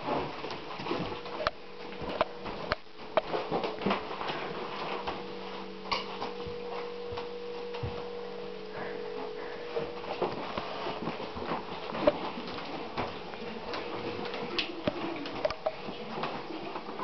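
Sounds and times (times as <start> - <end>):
footsteps on hard floor: 0.0 - 8.1, 8.8 - 16.5
steady hum: 0.0 - 17.0.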